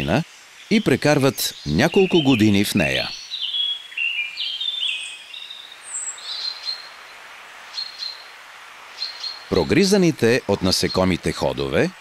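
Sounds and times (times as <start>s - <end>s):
faint forest hiss: 0.0s - 12.0s
songbird singing: 0.0s - 12.0s.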